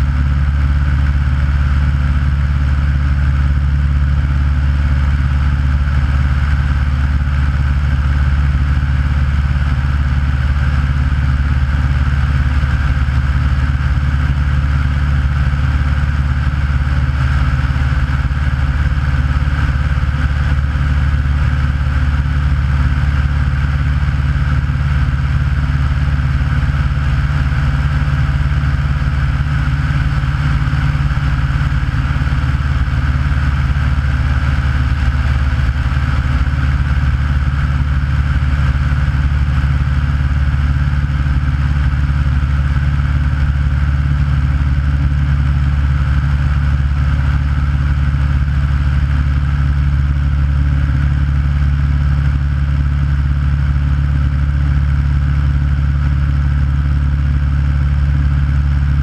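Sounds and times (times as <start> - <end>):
light plane engine drone: 0.0 - 59.0.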